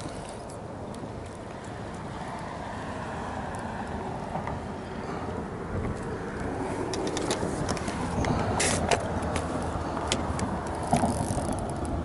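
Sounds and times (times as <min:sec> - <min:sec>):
wind rumbling on microphone: 0:01.6 - 0:12.0.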